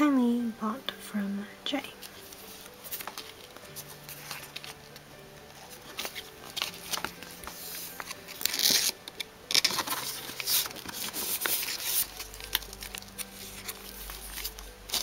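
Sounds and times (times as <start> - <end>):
plastic sleeves crinkling and rustling: 1.9 - 15.0.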